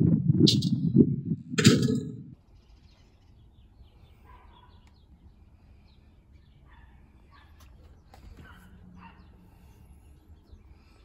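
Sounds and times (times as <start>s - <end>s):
small birds chirping: 1.6s - 11.0s.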